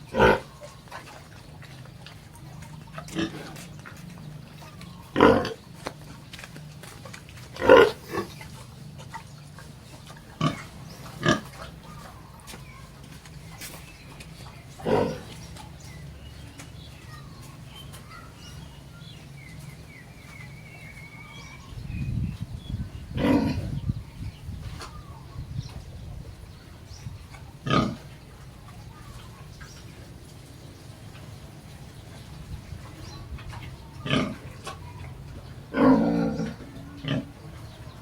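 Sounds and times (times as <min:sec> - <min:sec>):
pigs calling: 0:00.0 - 0:21.8, 0:23.0 - 0:24.0, 0:26.4 - 0:38.0.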